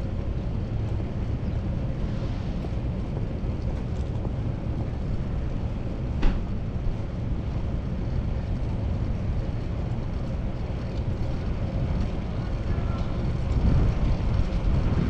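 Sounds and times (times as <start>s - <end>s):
bicycle road rumble: 0.0s - 15.0s
wind: 0.0s - 15.0s.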